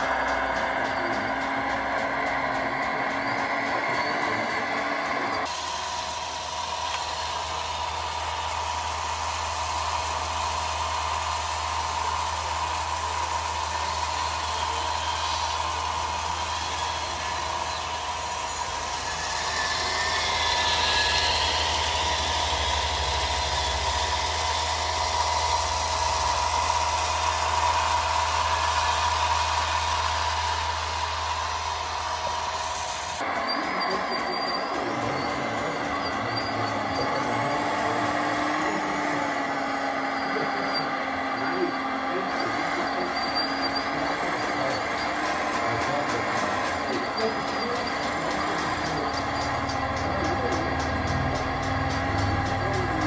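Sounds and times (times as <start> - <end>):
model vehicle motor whining: 3.0 - 53.0.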